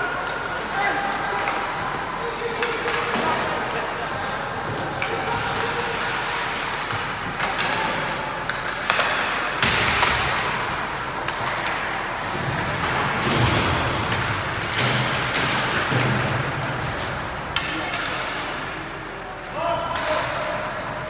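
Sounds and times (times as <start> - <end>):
ice rink noise: 0.0 - 21.0
puck and sticks hitting boards: 0.0 - 21.0.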